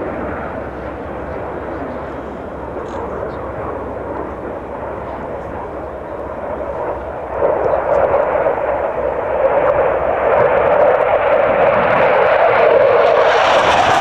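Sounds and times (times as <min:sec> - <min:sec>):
jet engines flying past: 0:00.0 - 0:14.0.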